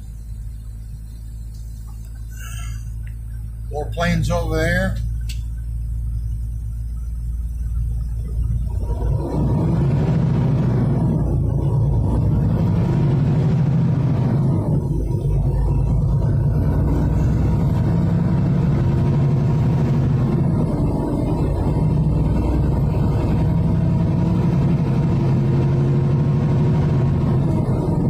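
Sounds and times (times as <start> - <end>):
car road noise rumble: 0.0 - 28.0.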